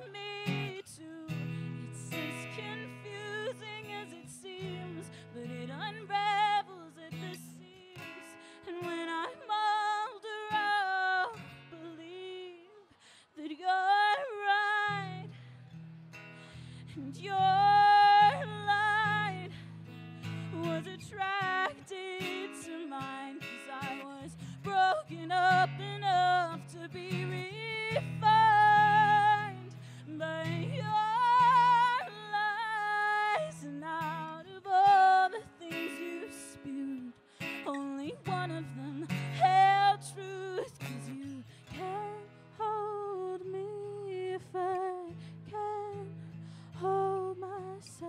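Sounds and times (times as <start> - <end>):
woman singing: 0.0 - 15.8, 16.5 - 48.0
acoustic guitar strumming: 0.3 - 12.4, 13.9 - 44.3.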